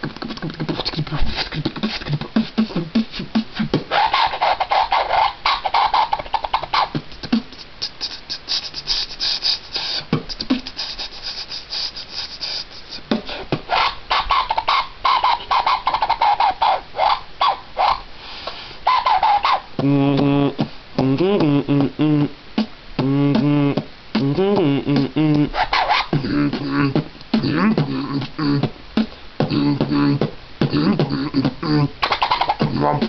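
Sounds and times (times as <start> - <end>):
beatboxing mouth percussion: 0.0 - 33.0.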